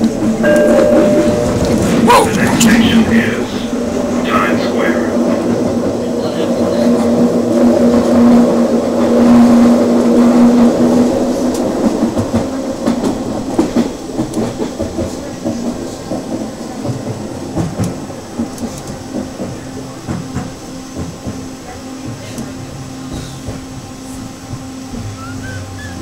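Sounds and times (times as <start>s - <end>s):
train car rattling and clacking: 0.0s - 26.0s.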